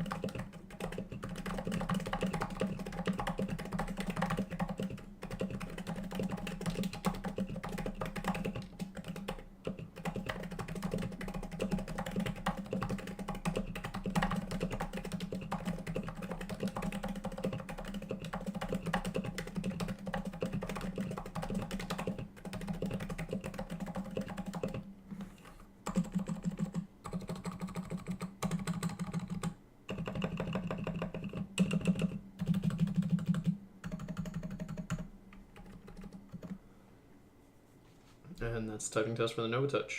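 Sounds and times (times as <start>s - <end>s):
muted keyboard typing: 0.0s - 36.6s.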